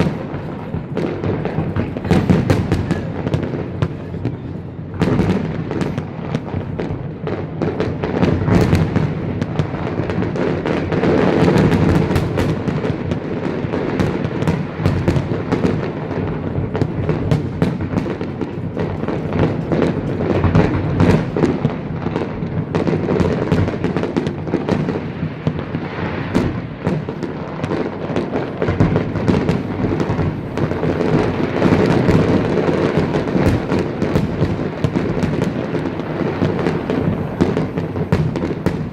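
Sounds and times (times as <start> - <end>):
firework shells bursting and crackling: 0.0 - 38.9.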